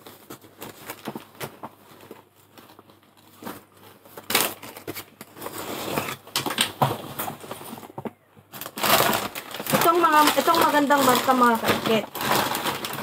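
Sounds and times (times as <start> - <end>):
backpack and plastic bags rustling: 0.0 - 13.0.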